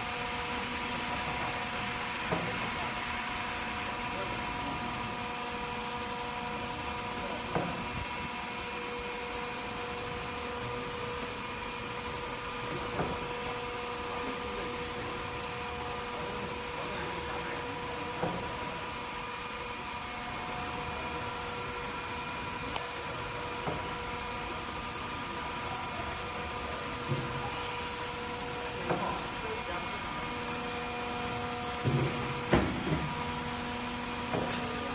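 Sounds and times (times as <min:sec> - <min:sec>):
machine humming and whining: 0:00.0 - 0:34.9.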